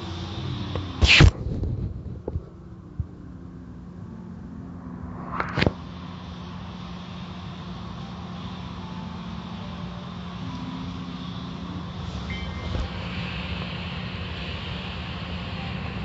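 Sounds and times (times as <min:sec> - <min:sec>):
car wash mechanical hum: 0:00.0 - 0:16.0.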